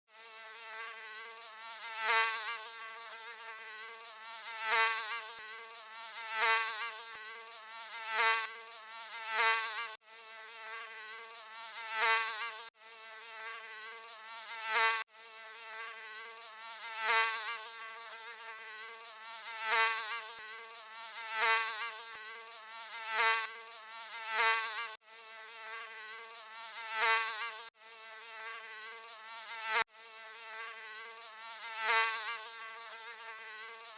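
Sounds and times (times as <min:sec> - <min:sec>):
mosquito wings buzzing: 0:00.1 - 0:33.9.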